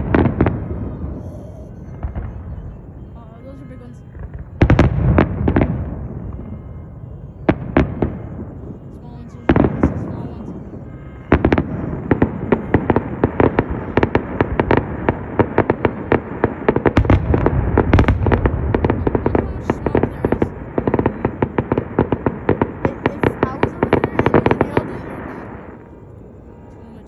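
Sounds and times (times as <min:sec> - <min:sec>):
firework booms rumbling: 0:00.0 - 0:26.0.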